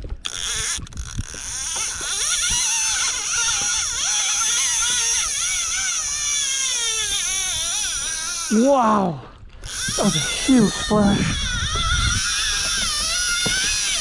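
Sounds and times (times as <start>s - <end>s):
fishing reel drag screaming: 0.2s - 8.7s, 9.6s - 14.0s.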